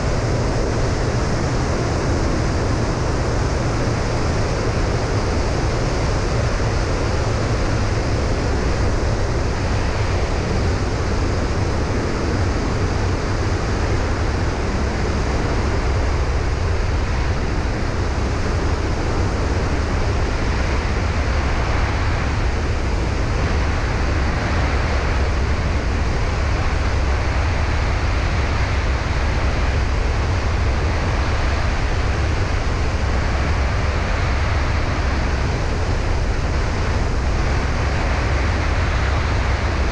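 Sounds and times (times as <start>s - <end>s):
plane engine and propeller drone: 0.0s - 39.9s
wind rushing over camera: 0.0s - 39.9s.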